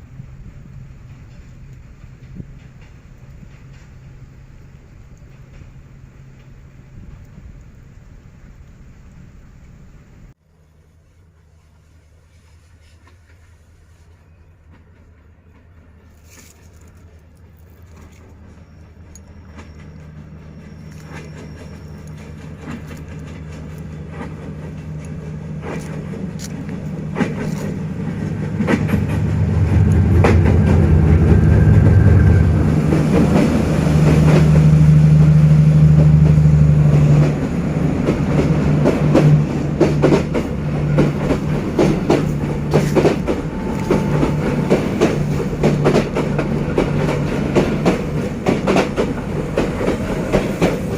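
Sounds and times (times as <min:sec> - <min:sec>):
diesel locomotive engine drone: 0:00.0 - 0:50.9
wheels clacking over rail joints: 0:00.1 - 0:08.0, 0:14.7 - 0:50.9.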